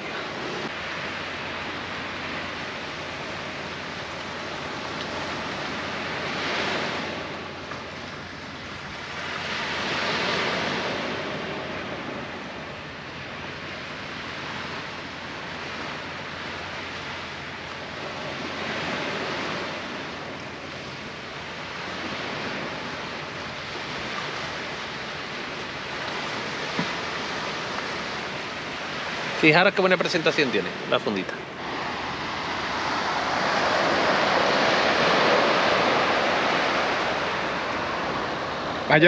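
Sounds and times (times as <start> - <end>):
sea surf breaking on beach: 0.0 - 39.0.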